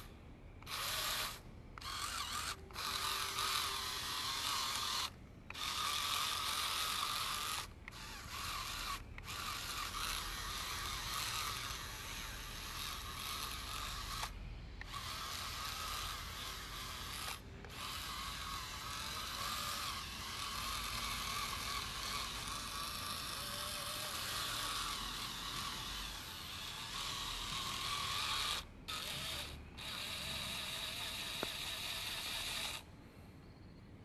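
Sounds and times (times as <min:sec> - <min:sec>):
small gear motor whirring: 0:00.0 - 0:33.0.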